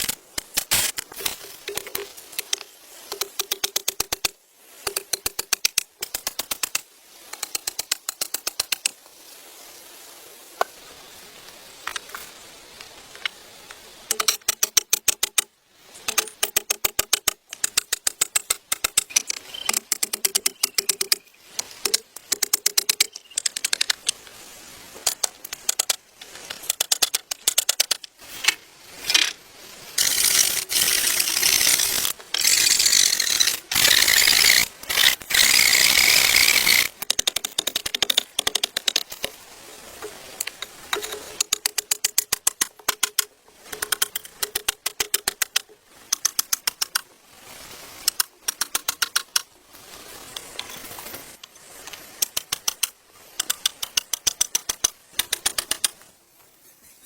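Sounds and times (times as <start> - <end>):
rapid mechanical clicking: 0.0 - 9.0, 14.1 - 24.2, 25.0 - 29.4, 30.0 - 39.3, 40.4 - 47.1, 48.0 - 49.6, 51.3 - 56.1.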